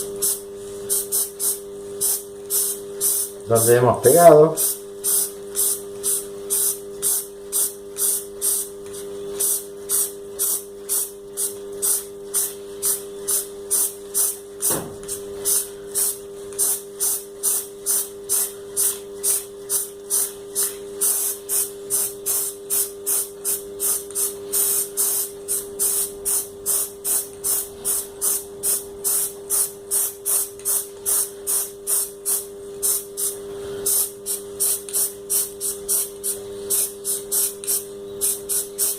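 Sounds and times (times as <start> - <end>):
paint spray hissing: 0.0 - 3.8, 4.5 - 38.9.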